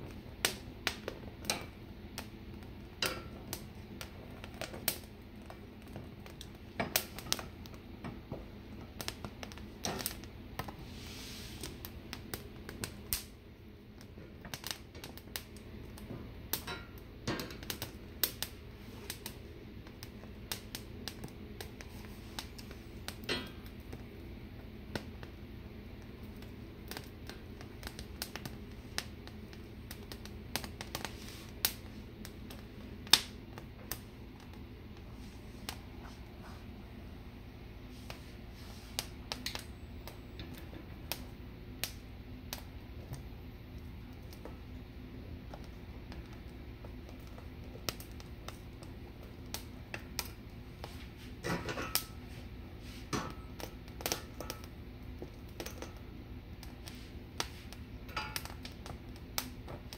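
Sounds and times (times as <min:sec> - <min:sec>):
gas burner rushing: 0:00.0 - 0:59.9
peppers crackling and popping: 0:00.1 - 0:10.8, 0:11.7 - 0:35.8, 0:38.9 - 0:52.3, 0:53.1 - 0:59.9.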